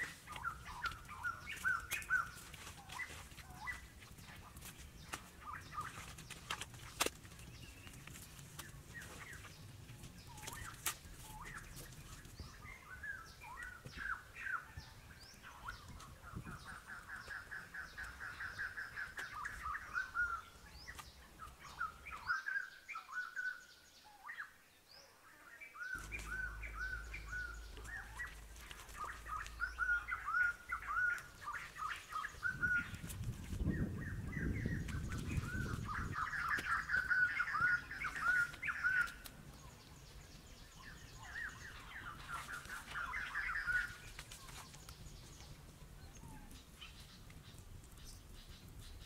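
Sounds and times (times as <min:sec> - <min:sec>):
birds chirping and calling: 0:00.0 - 0:23.6, 0:25.8 - 0:49.0.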